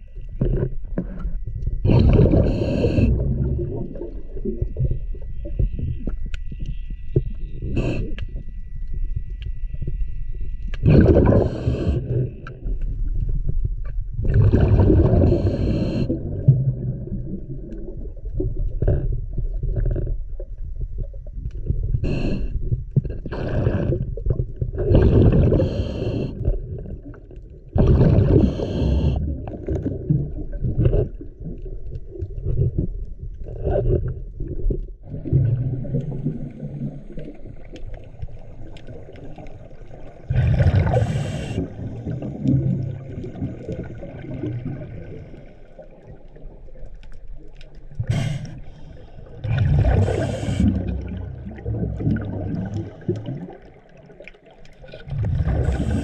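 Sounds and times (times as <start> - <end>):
exhaled air bubbling: 0.0 - 56.0.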